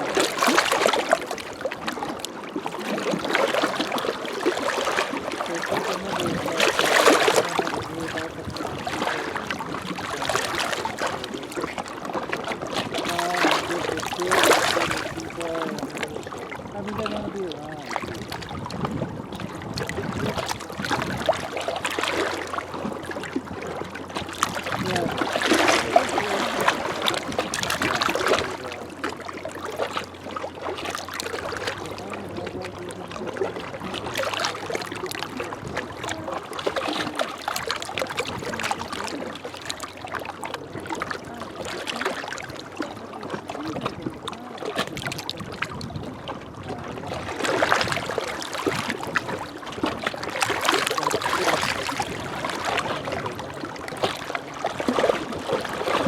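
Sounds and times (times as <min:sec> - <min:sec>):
small waves lapping on shore: 0:00.0 - 0:56.0.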